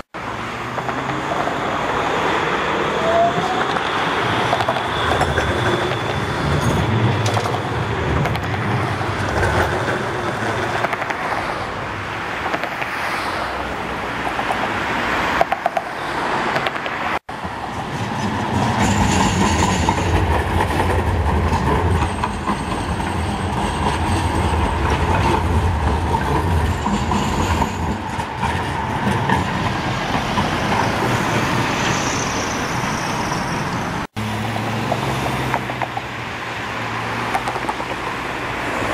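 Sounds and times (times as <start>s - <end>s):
trams rolling on track: 0.1s - 38.9s.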